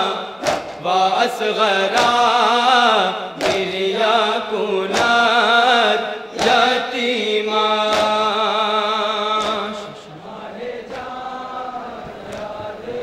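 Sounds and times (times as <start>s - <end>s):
man chanting into microphone: 0.0s - 11.7s.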